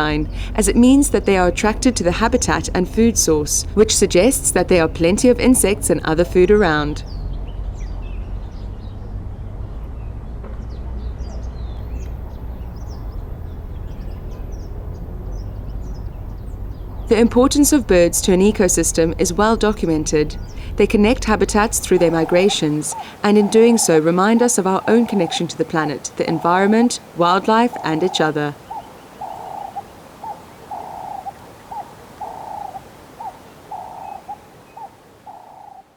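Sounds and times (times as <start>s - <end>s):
low background rumble: 0.0s - 29.8s
birds chirping: 0.0s - 35.9s.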